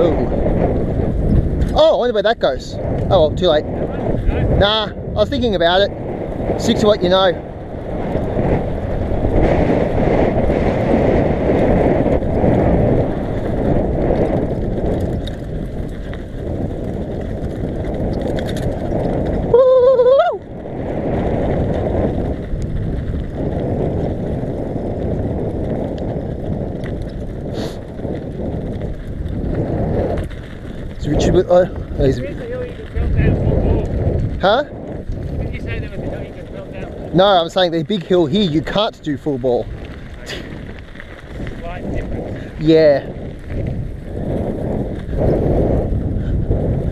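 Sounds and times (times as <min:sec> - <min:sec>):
bike tyres rattling over dirt: 0:00.0 - 0:46.9
wind rushing over microphone: 0:00.0 - 0:46.9.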